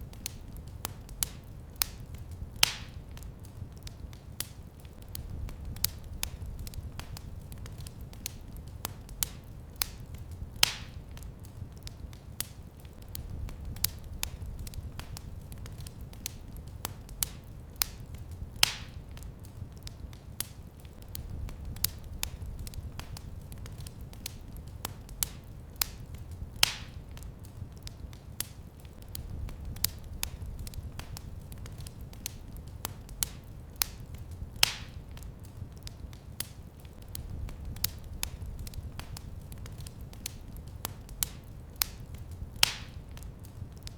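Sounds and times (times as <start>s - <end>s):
low steady fire rumble: 0.0s - 43.9s
wood fire crackling: 0.0s - 43.9s.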